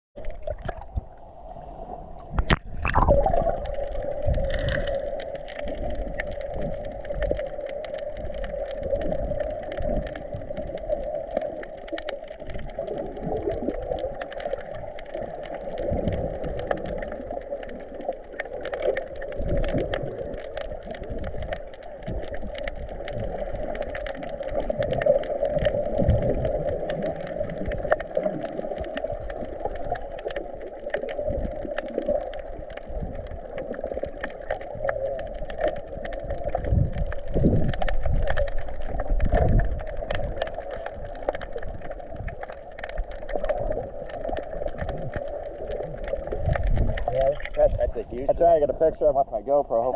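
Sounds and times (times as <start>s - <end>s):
fine underwater clicks: 0.2s - 1.3s, 2.2s - 49.1s
muffled underwater rushing: 0.2s - 49.9s.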